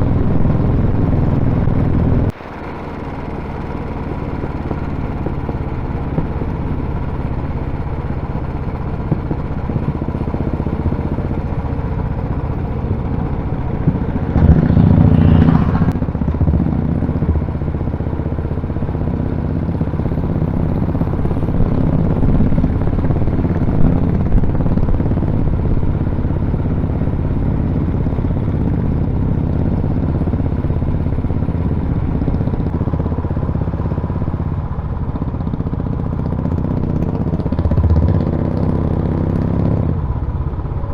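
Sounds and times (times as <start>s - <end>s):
motorcycle engines running: 0.0s - 40.9s.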